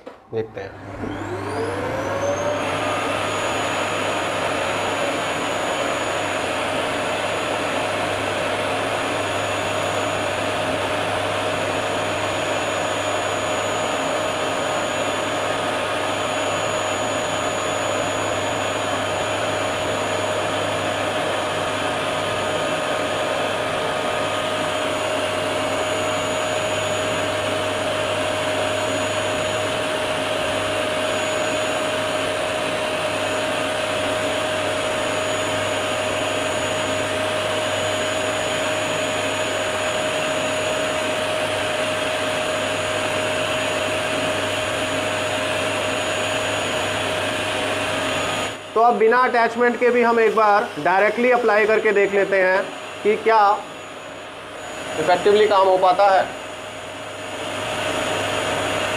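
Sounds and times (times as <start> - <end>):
vacuum cleaner motor whining: 0.0 - 58.9.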